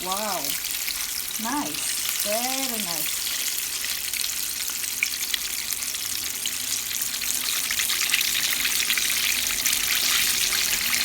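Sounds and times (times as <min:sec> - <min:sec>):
chicken deep-frying in oil: 0:00.0 - 0:11.0
oil crackling and popping: 0:00.0 - 0:11.0.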